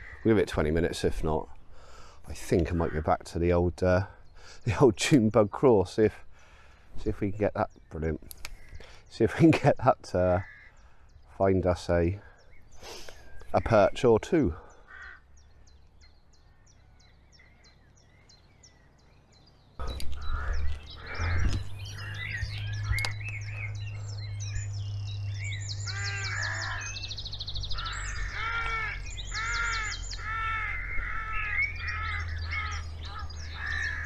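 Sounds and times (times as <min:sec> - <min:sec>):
birds calling and trilling: 0:00.0 - 0:34.0.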